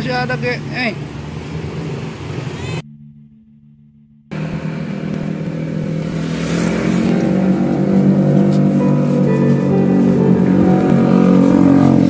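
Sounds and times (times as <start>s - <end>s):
engine humming: 1.2s - 12.0s.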